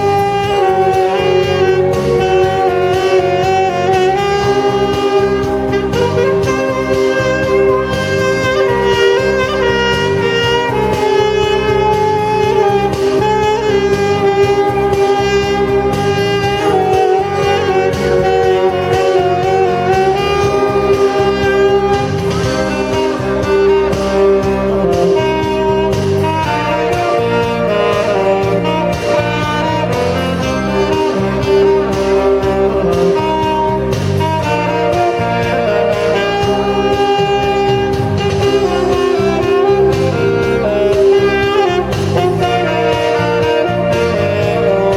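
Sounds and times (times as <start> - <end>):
backing chords: 0.0 - 44.9
saxophone melody: 0.0 - 44.9.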